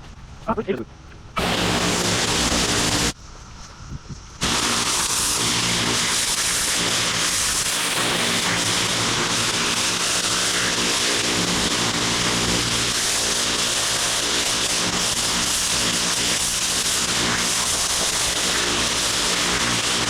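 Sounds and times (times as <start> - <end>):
pressure washer engine running: 1.4 - 3.2, 4.4 - 20.0
high-pressure water spray hissing: 1.4 - 20.0.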